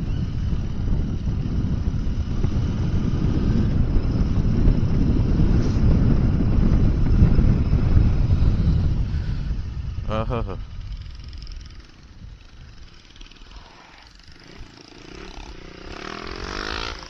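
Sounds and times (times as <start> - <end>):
motorcycle engine and road noise: 0.0 - 17.0
wind buffeting microphone: 0.0 - 17.0.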